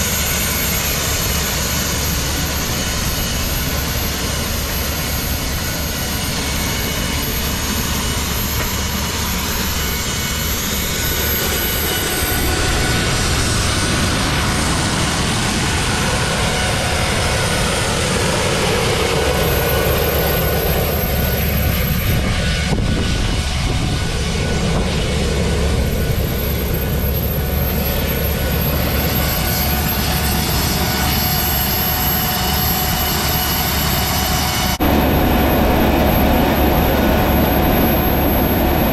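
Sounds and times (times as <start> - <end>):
gas turbine whine and rush: 0.0 - 38.9.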